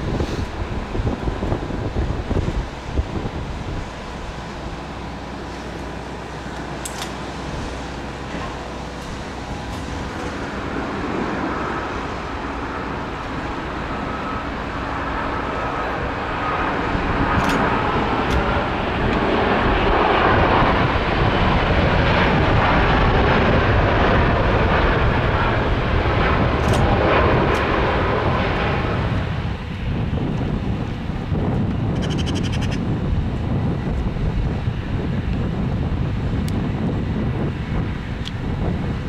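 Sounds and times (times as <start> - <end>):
jet engines whining: 0.0 - 39.0.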